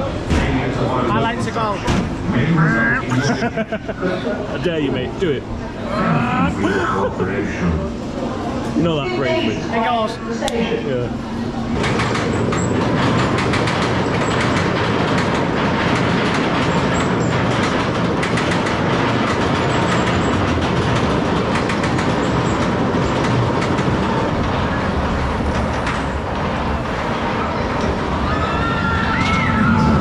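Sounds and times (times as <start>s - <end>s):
roller coaster rattling on track: 0.0s - 30.0s.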